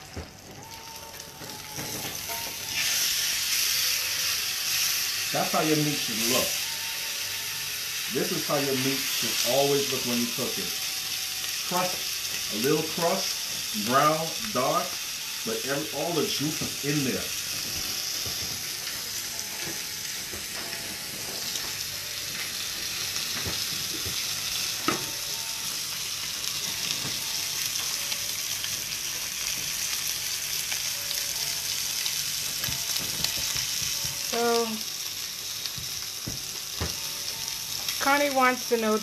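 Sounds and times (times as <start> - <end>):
steak sizzling in skillet: 0.0 - 39.0.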